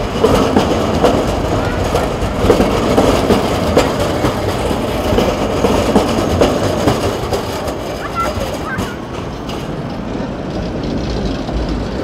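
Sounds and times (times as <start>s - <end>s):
tram wheels rumbling over rails: 0.0s - 12.0s.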